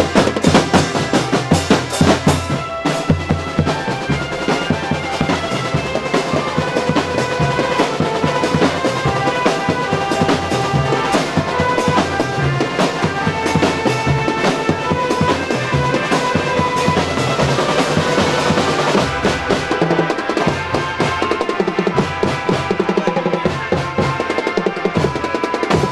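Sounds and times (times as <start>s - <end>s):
drum kit fast beat: 0.0s - 25.9s.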